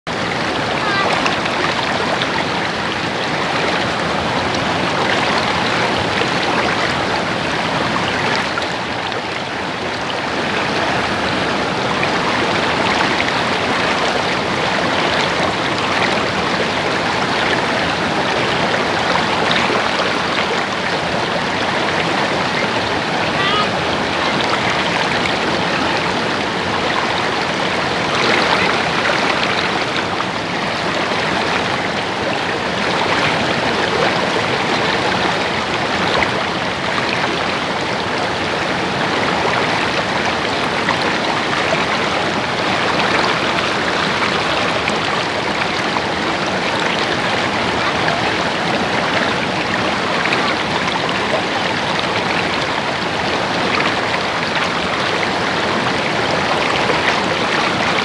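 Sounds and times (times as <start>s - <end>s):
stream water babbling over stones: 0.1s - 58.0s.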